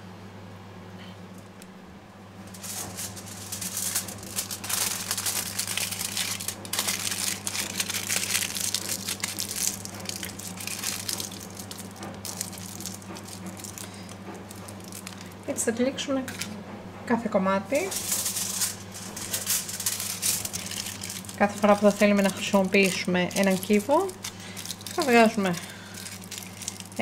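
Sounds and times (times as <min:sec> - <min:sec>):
aluminium foil crinkling: 0:02.4 - 0:15.7, 0:17.7 - 0:27.0.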